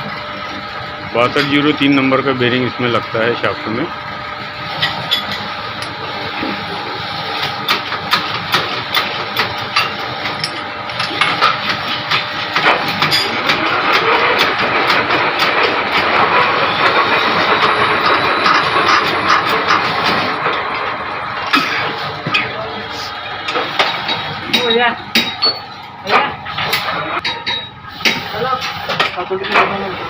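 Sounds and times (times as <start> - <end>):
machine running: 0.0 - 30.0.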